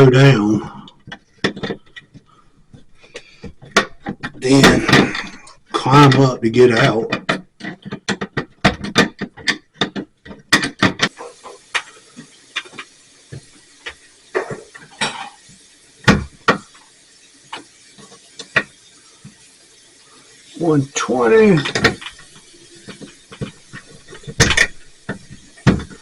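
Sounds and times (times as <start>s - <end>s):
objects knocking and clicking: 0.8s - 16.9s, 17.5s - 19.5s, 21.3s - 26.0s.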